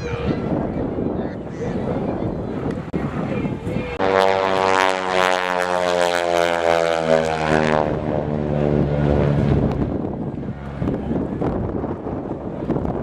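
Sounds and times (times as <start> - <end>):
propeller airplane passing: 0.0 - 13.0.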